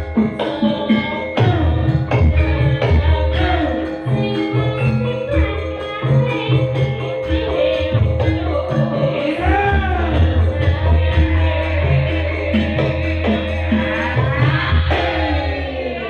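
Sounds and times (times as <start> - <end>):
gamelan music: 0.0 - 16.0
heavy rhythmic drum beats: 0.0 - 16.0.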